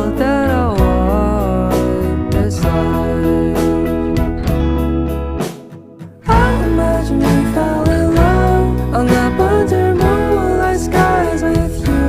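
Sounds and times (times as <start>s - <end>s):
gliding melody over bass: 0.0s - 5.4s, 6.3s - 12.0s.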